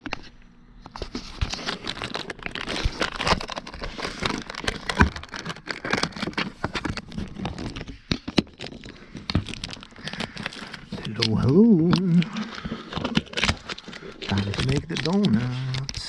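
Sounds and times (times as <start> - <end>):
crinkling and rustling: 0.0 - 16.0.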